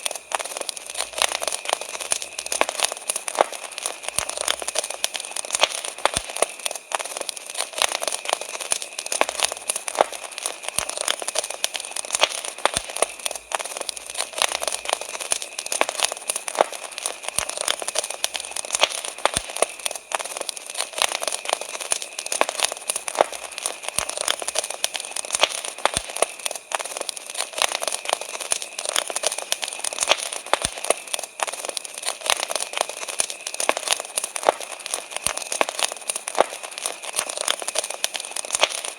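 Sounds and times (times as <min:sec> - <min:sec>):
campfire crackling: 0:00.0 - 0:38.9
crickets chirring: 0:00.0 - 0:38.9
sharp pops and snaps: 0:00.0 - 0:38.9.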